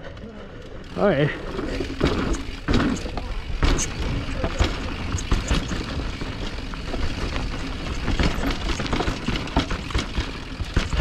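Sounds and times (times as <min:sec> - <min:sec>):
knocks and rattles: 0:01.3 - 0:11.0.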